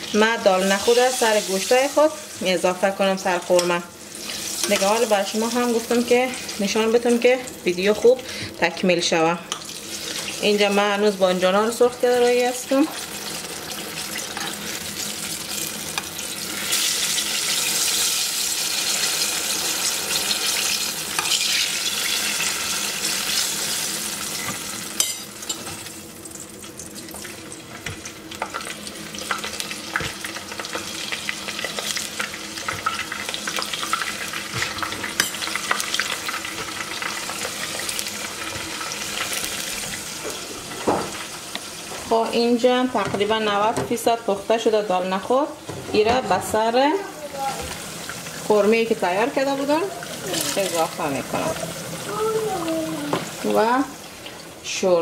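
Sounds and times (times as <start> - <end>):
eggplant sizzling in hot oil: 0.0 - 55.0.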